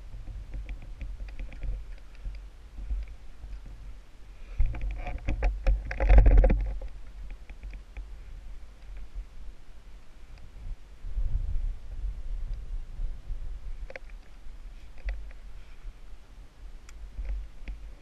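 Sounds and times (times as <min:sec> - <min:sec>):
low rumble: 0:00.0 - 0:15.6.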